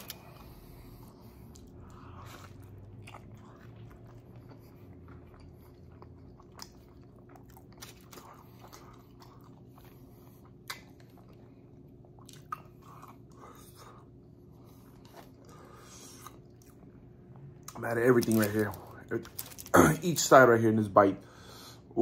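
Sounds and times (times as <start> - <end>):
person chewing food: 0.0 - 19.7.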